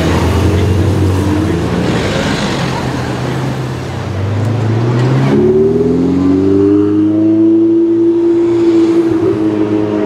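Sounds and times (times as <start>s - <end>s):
sports car engine accelerating: 0.0s - 10.0s.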